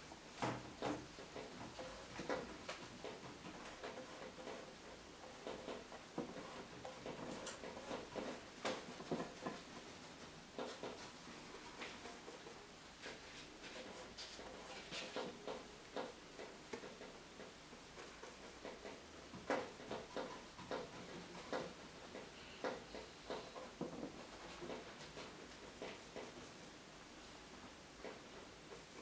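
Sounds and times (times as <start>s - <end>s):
paintbrush tapping and stroking canvas: 0.4s - 26.6s.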